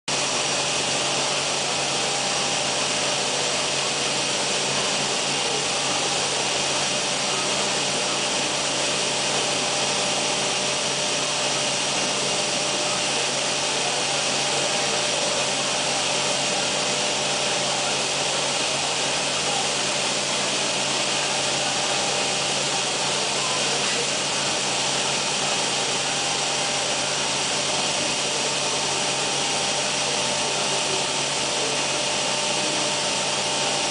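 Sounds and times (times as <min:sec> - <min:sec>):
cnc router high hiss: 0:00.1 - 0:33.9.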